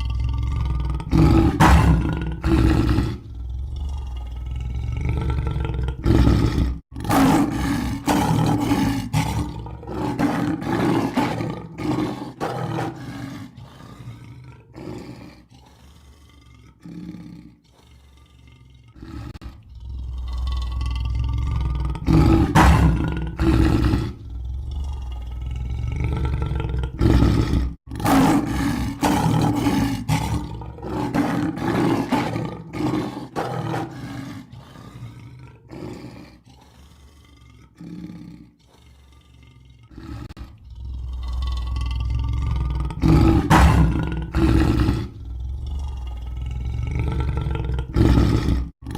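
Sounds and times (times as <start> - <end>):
lion roaring and grunting: 0.0 - 48.9.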